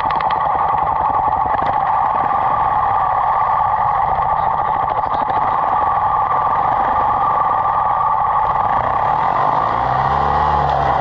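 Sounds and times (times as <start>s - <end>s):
two-stroke engine running: 0.0s - 11.0s.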